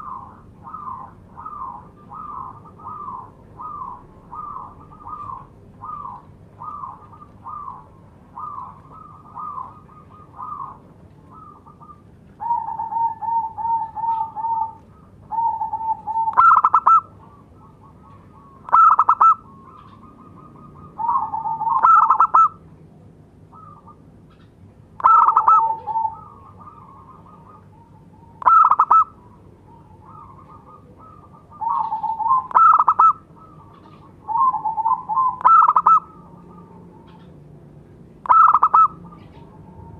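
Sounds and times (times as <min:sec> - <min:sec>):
dove cooing: 0:00.0 - 0:22.7, 0:23.5 - 0:24.1, 0:25.0 - 0:37.6, 0:38.2 - 0:39.9.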